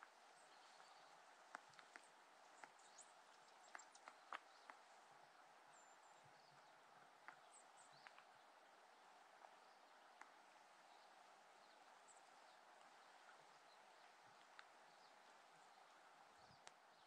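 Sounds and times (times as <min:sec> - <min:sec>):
soft irregular clicks: 0:00.0 - 0:08.4, 0:09.3 - 0:17.0
faint outdoor hiss: 0:00.0 - 0:17.0.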